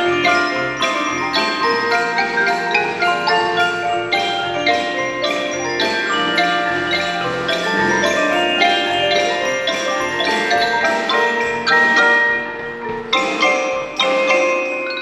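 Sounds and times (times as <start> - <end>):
high bell-like notes: 0.0 - 15.0
mallet percussion ensemble: 0.0 - 15.0.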